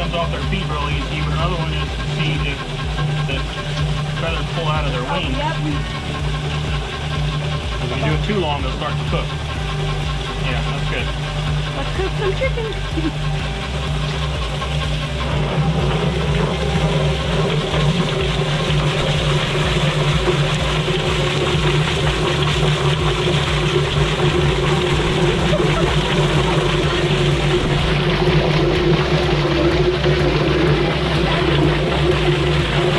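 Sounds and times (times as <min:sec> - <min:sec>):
chicken plucker motor hum: 0:00.0 - 0:32.9
hose spraying water: 0:00.0 - 0:32.9.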